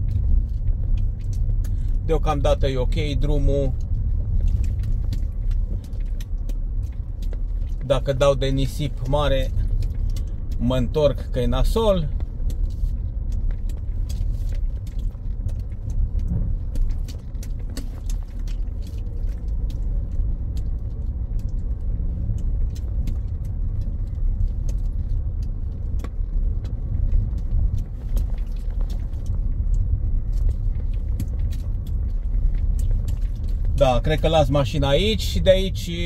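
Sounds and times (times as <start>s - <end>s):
tyres and engine rumbling: 0.0s - 36.0s.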